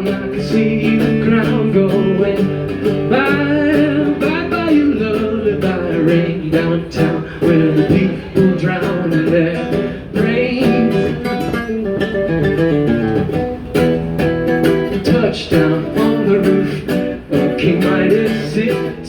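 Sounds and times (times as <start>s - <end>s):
acoustic guitar folk song: 0.0s - 19.0s.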